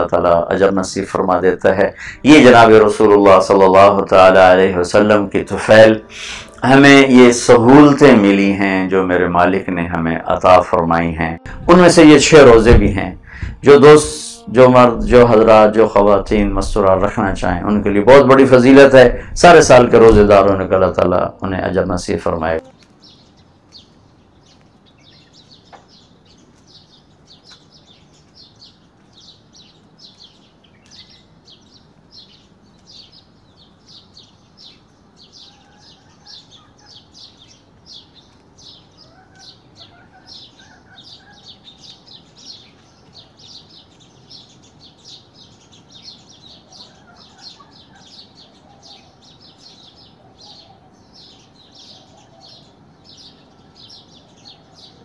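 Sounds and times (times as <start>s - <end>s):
fainter lower bird calls: 0.0s - 55.0s
small birds chirping: 0.0s - 55.0s.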